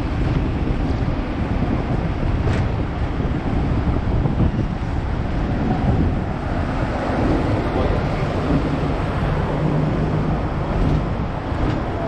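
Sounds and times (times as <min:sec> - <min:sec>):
tram rumbling: 0:00.0 - 0:12.0
wind buffeting microphone: 0:00.0 - 0:12.0.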